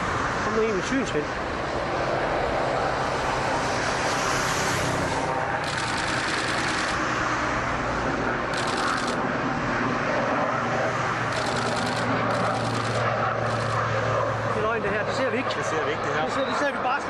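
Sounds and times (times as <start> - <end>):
aircraft engine noise: 0.0 - 17.0.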